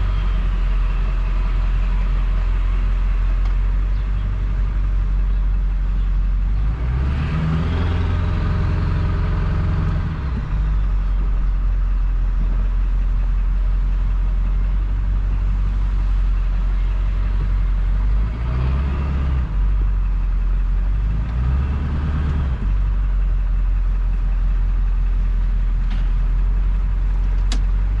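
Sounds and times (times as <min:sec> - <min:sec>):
diesel truck engine revving: 0:00.0 - 0:28.0.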